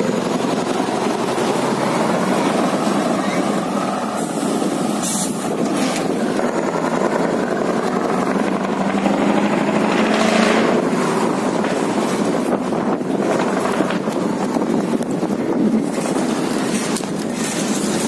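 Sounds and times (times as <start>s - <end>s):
diesel truck engine running: 0.0s - 18.0s
wind on microphone: 0.0s - 18.0s.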